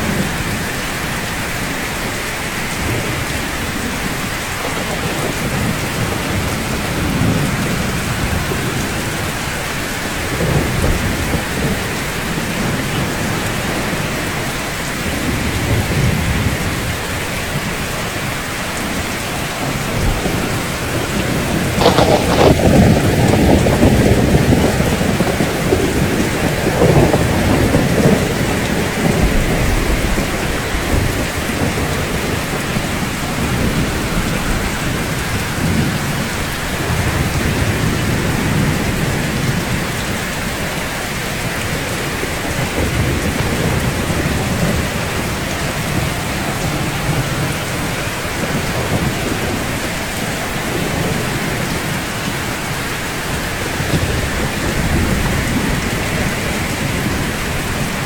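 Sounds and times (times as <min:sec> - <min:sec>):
low rolling thunder: 0:00.0 - 0:58.0
rain on a rooftop: 0:00.0 - 0:58.0.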